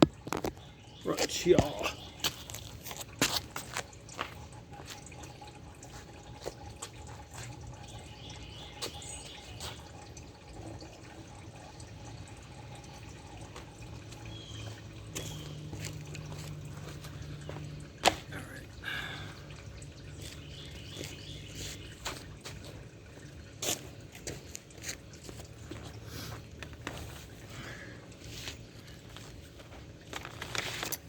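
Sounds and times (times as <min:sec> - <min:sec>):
oil dripping: 0:00.0 - 0:31.0.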